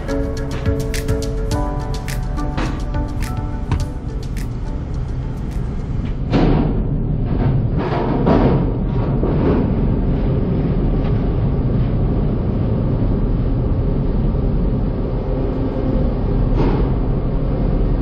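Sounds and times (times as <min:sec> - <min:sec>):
engine and road noise rumble: 0:00.0 - 0:18.0.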